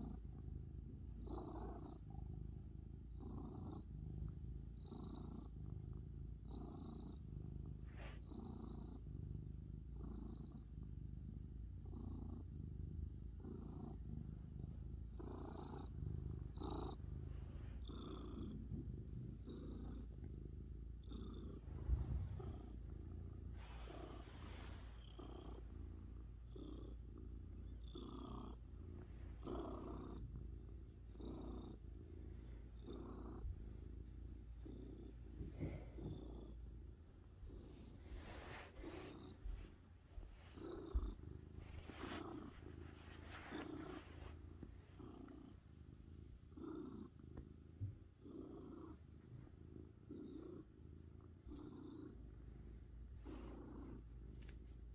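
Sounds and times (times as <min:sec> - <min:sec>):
cat purring: 0:00.0 - 0:54.9.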